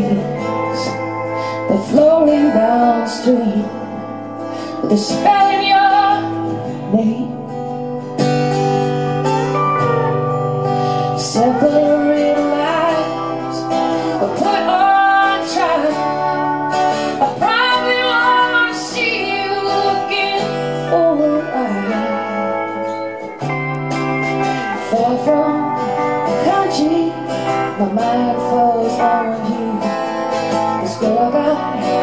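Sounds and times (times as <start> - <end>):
woman singing: 0.0 - 8.2, 10.8 - 23.5, 24.4 - 32.0
guitar accompaniment: 0.0 - 32.0.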